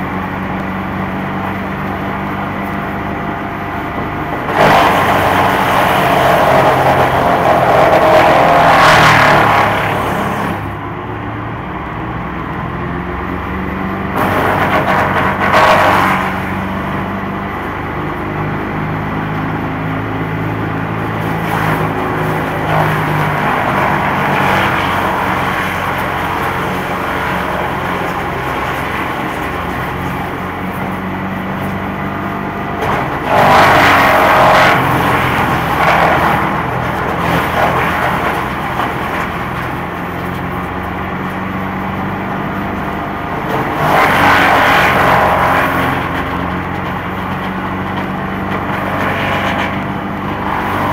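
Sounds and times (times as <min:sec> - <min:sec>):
wood chipper engine running: 0:00.0 - 0:50.9.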